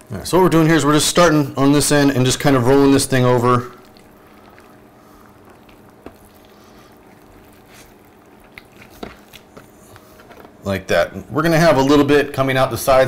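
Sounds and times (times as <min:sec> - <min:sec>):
room hum: 0:00.0 - 0:13.0
meat squishing: 0:00.8 - 0:12.0.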